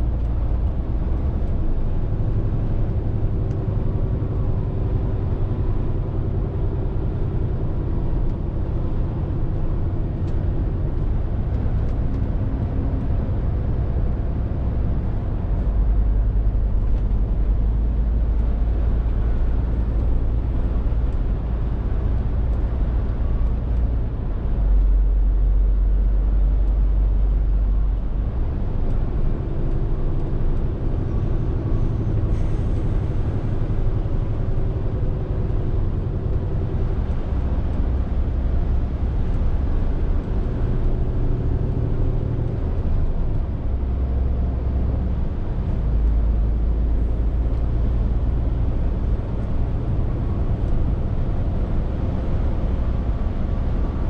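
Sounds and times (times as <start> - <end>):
truck diesel engine rumble: 0.0 - 54.0
tyre and road noise: 0.0 - 54.0.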